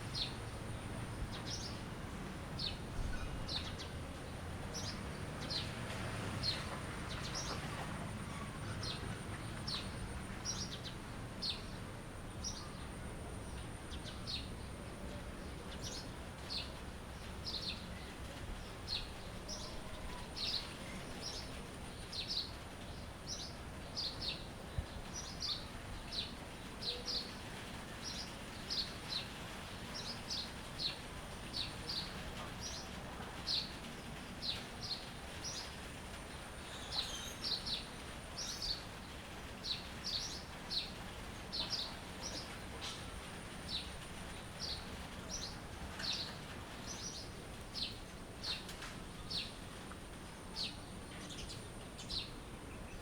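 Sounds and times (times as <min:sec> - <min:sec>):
faint background hiss: 0:00.0 - 0:53.0
songbirds chirping: 0:00.0 - 0:53.0.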